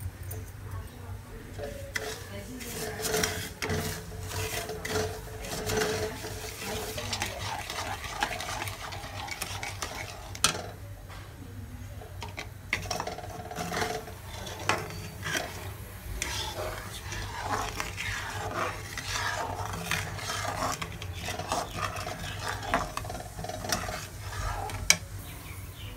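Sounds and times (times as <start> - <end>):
ladle scraping syrup in a pan: 1.4 - 10.8, 12.0 - 25.4.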